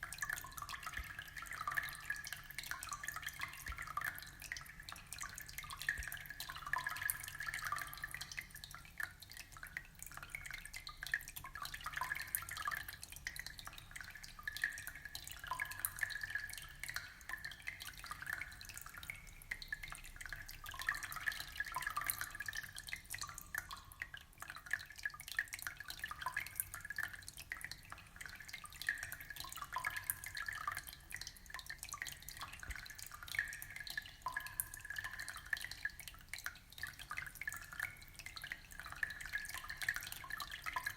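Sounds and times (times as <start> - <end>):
aquarium water trickling and dripping: 0.0 - 40.9.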